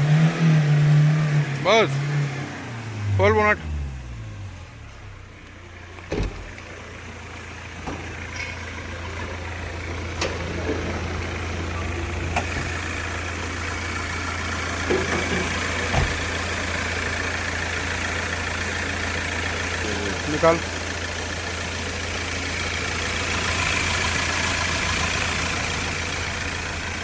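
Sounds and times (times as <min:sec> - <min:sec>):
diesel engine idling: 0:01.1 - 0:27.0.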